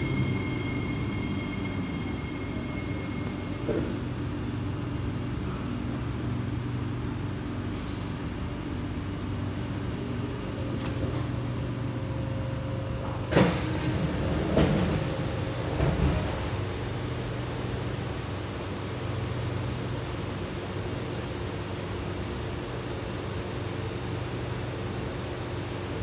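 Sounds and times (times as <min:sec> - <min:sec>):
train car low hum: 0:00.0 - 0:26.0.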